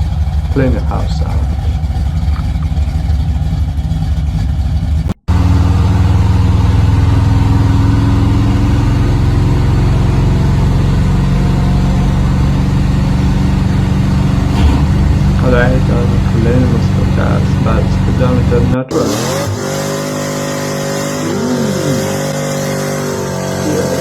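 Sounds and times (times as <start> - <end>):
muscle car engine and exhaust: 0.0 - 24.0.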